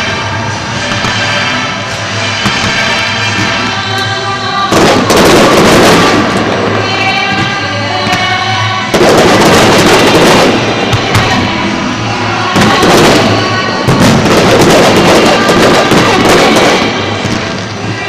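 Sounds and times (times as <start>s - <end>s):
fireworks bangs and crackling: 0.0s - 18.0s
music playing: 0.0s - 18.0s.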